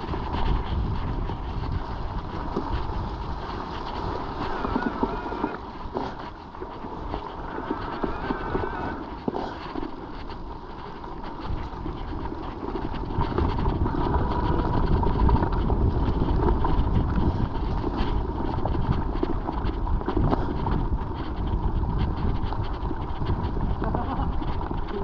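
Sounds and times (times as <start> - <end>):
bike clattering and rattling: 0.0 - 25.0
tyre rumble: 0.0 - 25.0
wind buffeting microphone: 0.0 - 25.0.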